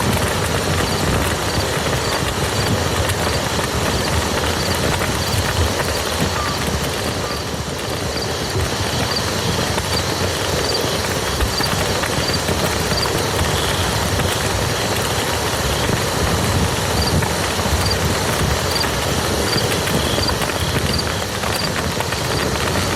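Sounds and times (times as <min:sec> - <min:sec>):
rain pattering: 0:00.0 - 0:22.9.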